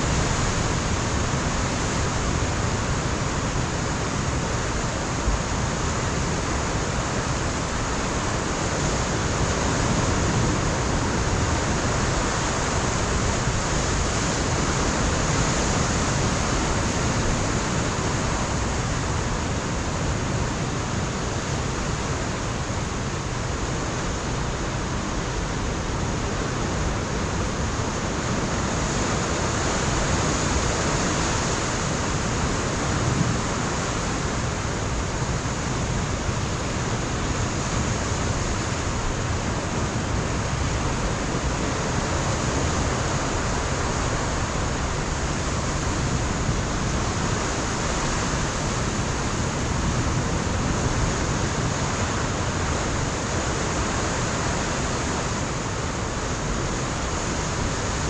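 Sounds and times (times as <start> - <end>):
ocean surf breaking on rocks: 0.0 - 58.0.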